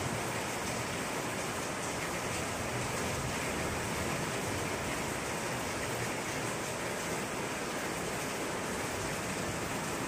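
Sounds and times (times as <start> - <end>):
heavy rain on paving and leaves: 0.0 - 10.0.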